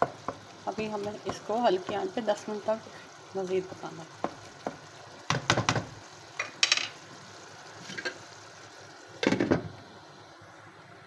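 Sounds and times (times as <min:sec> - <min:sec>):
faint sizzle of curry: 0:00.0 - 0:11.0.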